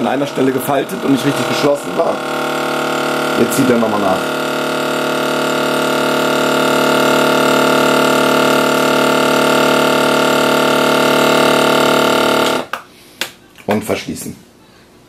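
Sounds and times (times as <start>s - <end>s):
vacuum sealer pump humming: 0.0s - 12.8s.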